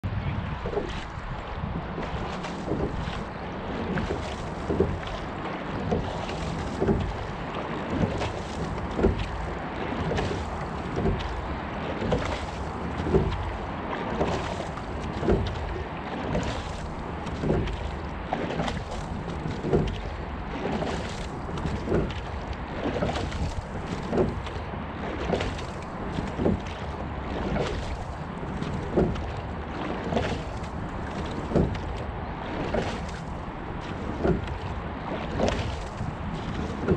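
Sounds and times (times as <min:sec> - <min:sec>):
water rushing along hull: 0:00.0 - 0:36.9
wind on microphone: 0:00.0 - 0:36.9.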